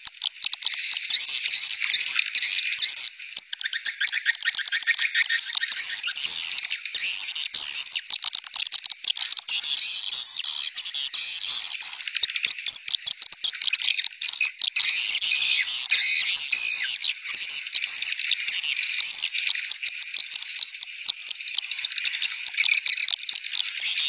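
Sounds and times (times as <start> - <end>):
chorus of high twittering chirps: 0.0 - 24.0.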